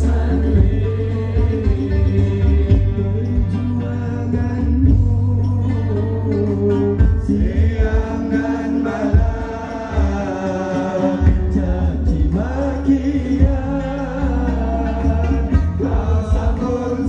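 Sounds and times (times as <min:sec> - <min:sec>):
heavy bass and drum strokes: 0:00.0 - 0:17.0
person singing through loud pa: 0:00.0 - 0:17.0.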